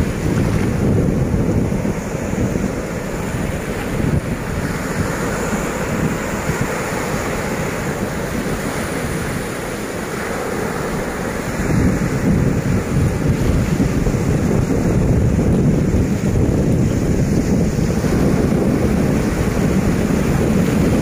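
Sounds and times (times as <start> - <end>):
surf washing on beach: 0.0 - 21.0
wind buffeting microphone: 0.0 - 21.0.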